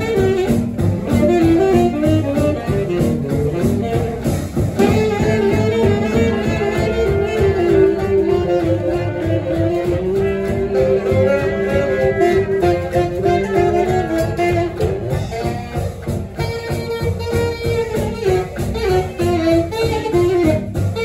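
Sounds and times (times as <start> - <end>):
guitar rhythm: 0.0 - 21.0
steady low beat: 0.0 - 21.0
tenor saxophone melody: 0.0 - 21.0.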